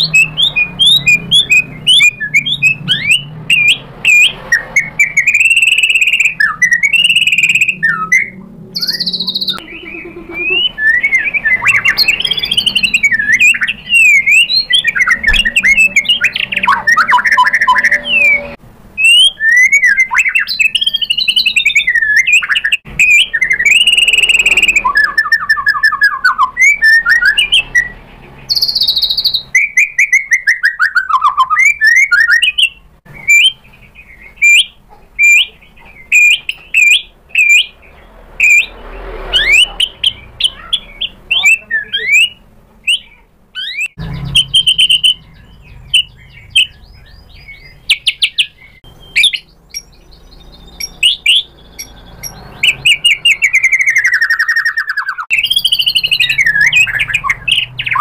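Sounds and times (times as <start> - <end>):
bird singing whistled song: 0.0 - 58.0.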